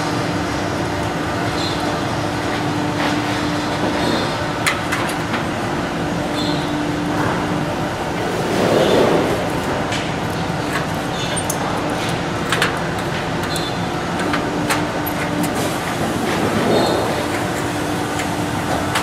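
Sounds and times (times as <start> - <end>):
workshop hum: 0.0 - 19.0.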